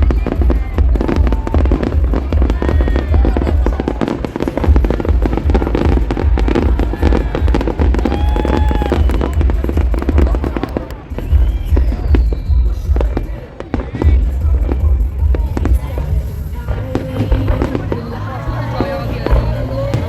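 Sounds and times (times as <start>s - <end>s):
fireworks deep booms: 0.0s - 20.0s
fireworks pops and crackles: 0.0s - 20.0s
music playing: 0.0s - 20.0s.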